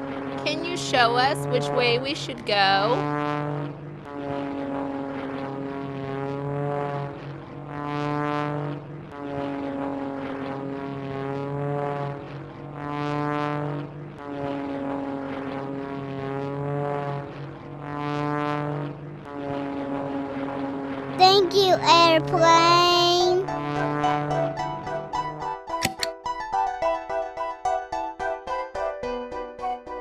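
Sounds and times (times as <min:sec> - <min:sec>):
propeller airplane engine droning: 0:00.0 - 0:26.1.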